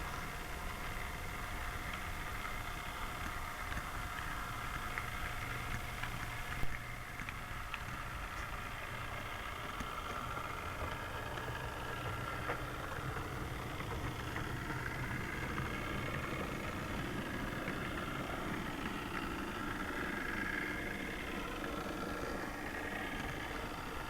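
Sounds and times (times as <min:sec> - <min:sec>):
model train motor whine: 0:00.0 - 0:24.0
wheel rumble: 0:00.0 - 0:24.0.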